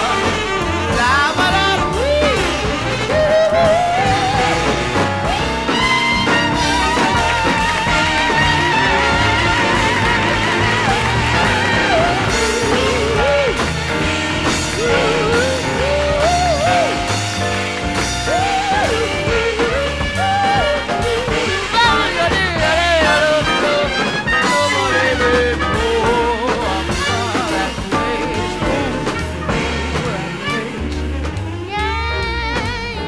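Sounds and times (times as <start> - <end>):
steady bass line: 0.0 - 33.0.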